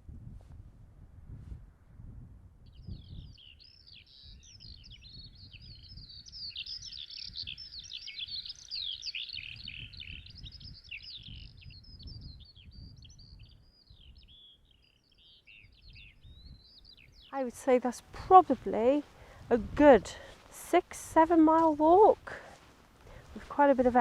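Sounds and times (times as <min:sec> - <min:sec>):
birds chattering: 0:03.0 - 0:24.0.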